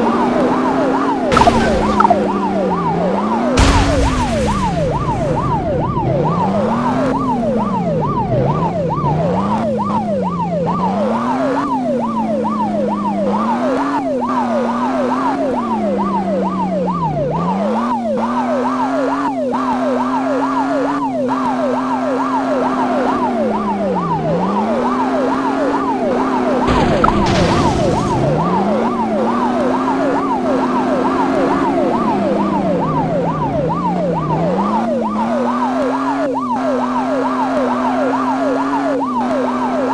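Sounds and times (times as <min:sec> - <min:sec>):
car engine revving: 0:00.0 - 0:39.9
police siren yelping: 0:00.0 - 0:39.9.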